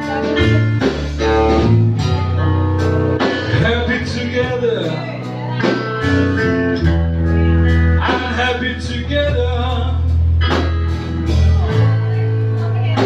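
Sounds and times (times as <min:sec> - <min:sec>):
blues band playing: 0:00.0 - 0:13.0
electric guitar: 0:00.0 - 0:13.0.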